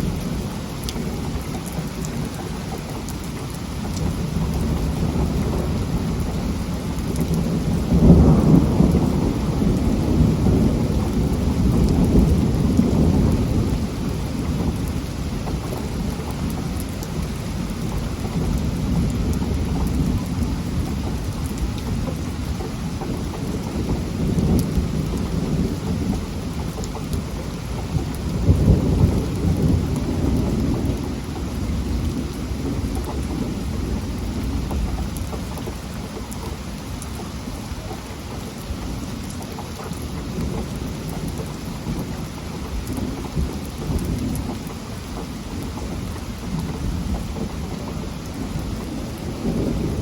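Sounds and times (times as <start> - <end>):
heavy rain: 0.0 - 50.0
thunder rumbling: 0.0 - 50.0.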